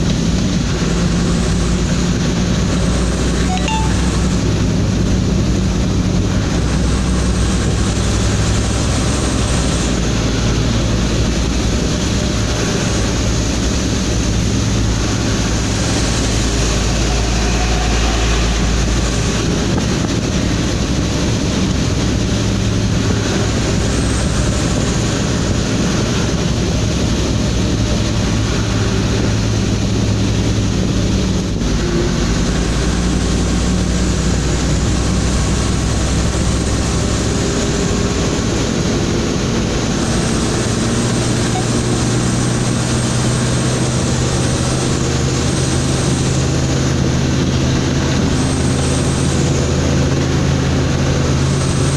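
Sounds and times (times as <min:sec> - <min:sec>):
heavy rain: 0:00.0 - 0:51.9
truck engine droning: 0:00.0 - 0:51.9.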